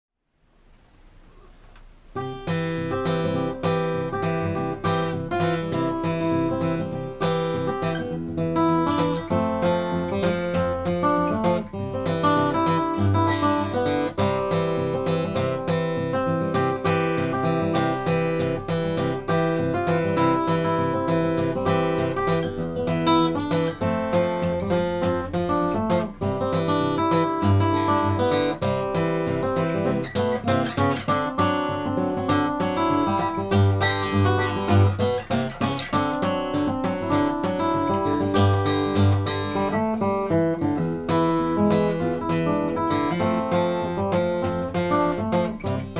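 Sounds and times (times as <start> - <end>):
acoustic guitar playing: 0.9 - 45.9.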